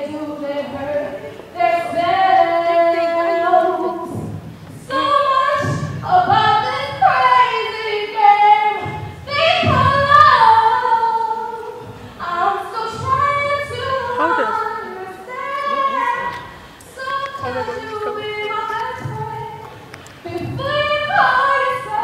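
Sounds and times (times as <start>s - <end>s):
woman singing into a microphone: 0.0s - 22.0s.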